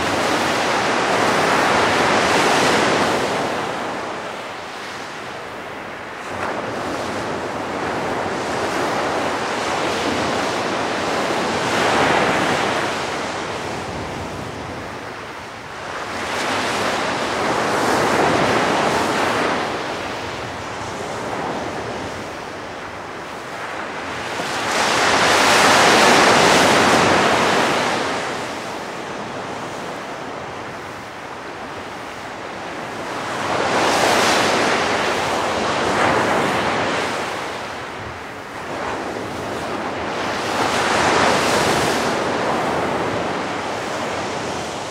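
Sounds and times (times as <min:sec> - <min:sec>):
waves washing on sandy beach: 0:00.0 - 0:44.9
wind on microphone: 0:00.0 - 0:44.9.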